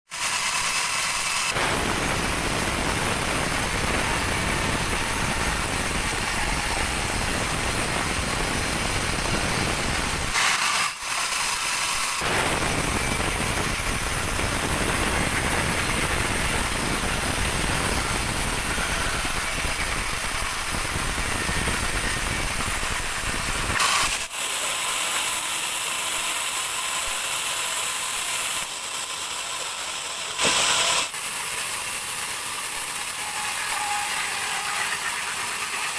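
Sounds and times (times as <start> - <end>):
band saw hissing: 0.1 - 35.9.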